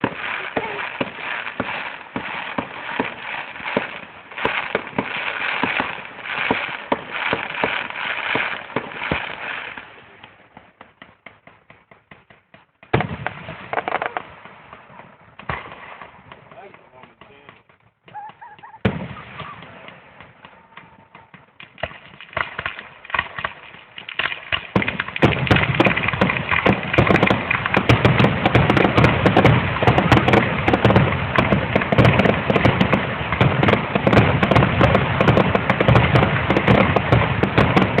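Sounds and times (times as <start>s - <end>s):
fireworks crackling and popping: 0.0s - 38.0s.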